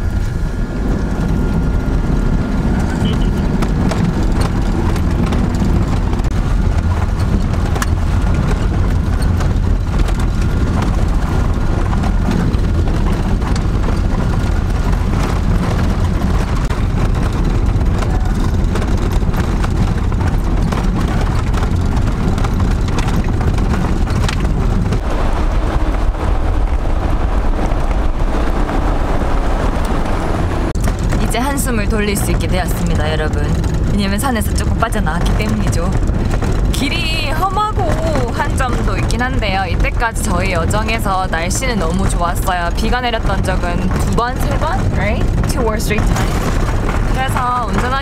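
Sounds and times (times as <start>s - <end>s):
knocks and rattles from bumpy road: 0.0s - 48.0s
van engine and tyre rumble: 0.0s - 48.0s.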